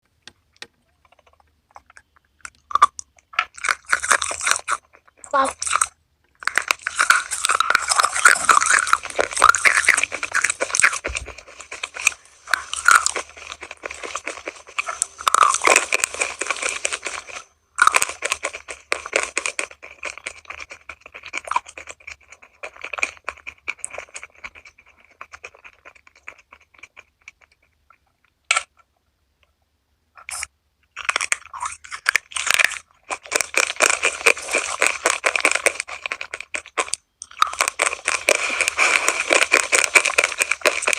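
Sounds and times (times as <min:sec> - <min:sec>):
crunchy chewing of crispy food: 0:00.8 - 0:29.0, 0:30.2 - 0:40.9.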